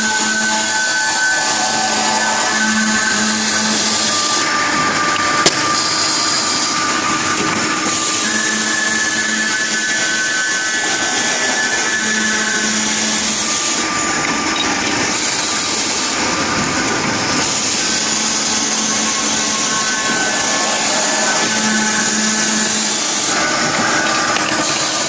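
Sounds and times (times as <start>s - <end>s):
cutoff saw cutting pipe: 0.0s - 25.0s.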